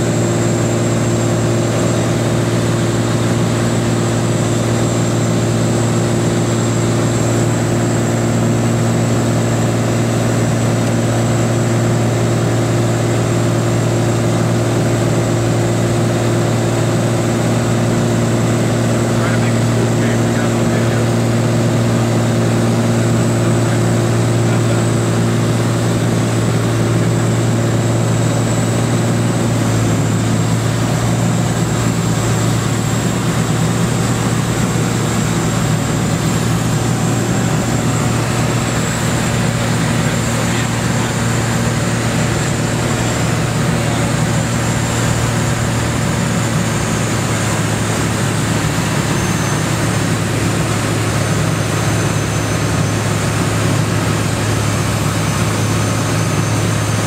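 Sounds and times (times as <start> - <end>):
plane engine and propeller drone: 0.0 - 57.0.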